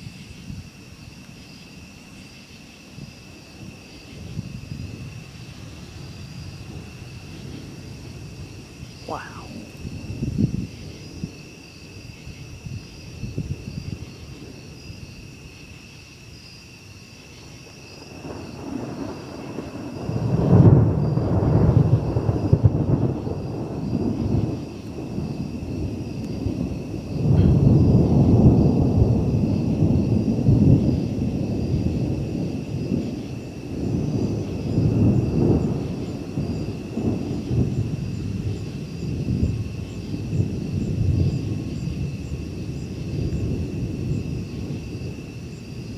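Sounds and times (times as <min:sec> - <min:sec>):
thunder rolling: 0:03.0 - 0:11.5, 0:17.4 - 0:45.9.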